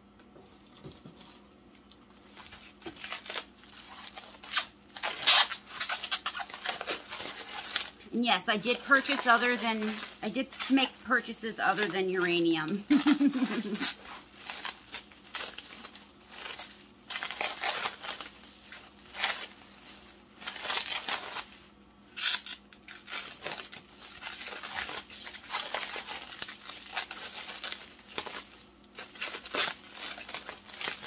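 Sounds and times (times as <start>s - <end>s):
plastic wrap crinkling: 0.4s - 31.0s.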